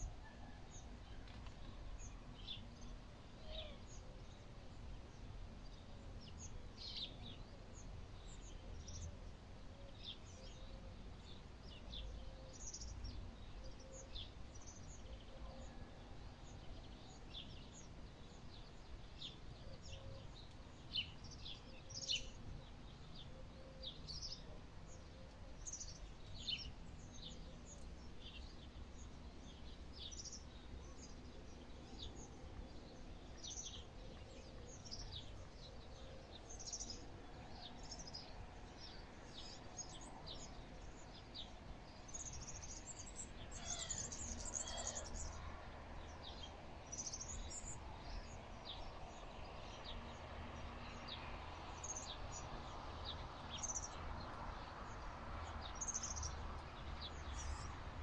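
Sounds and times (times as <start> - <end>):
faint background noise: 0.0 - 58.0
small birds chirping: 0.0 - 58.0.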